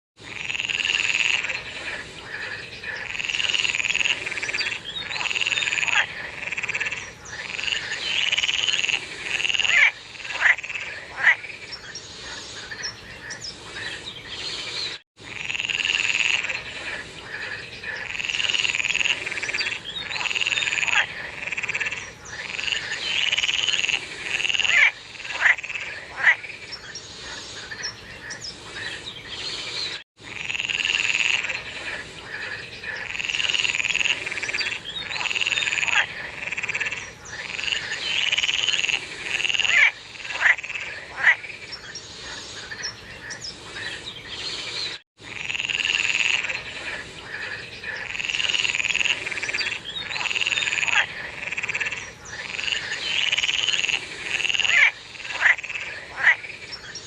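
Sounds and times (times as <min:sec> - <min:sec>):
frogs calling: 0:00.2 - 0:14.6, 0:15.2 - 0:29.6, 0:30.2 - 0:44.6, 0:45.2 - 0:57.0.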